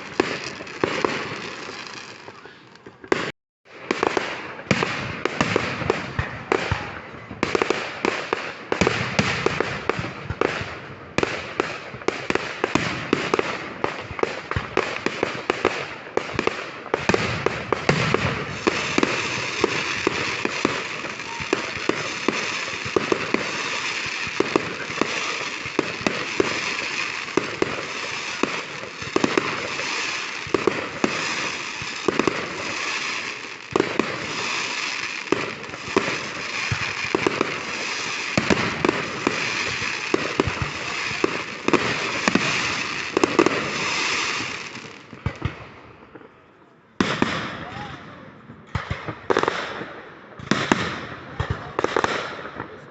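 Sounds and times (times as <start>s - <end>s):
fireworks crackling: 0.0s - 46.4s, 47.0s - 52.9s
fireworks sharp bangs: 0.0s - 46.4s, 47.0s - 52.9s.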